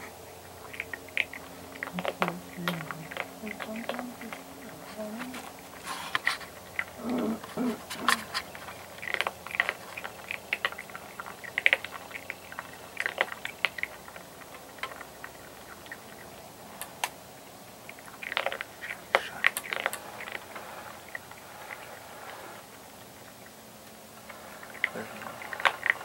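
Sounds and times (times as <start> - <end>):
animal chewing crunchy food: 0.0 - 26.0.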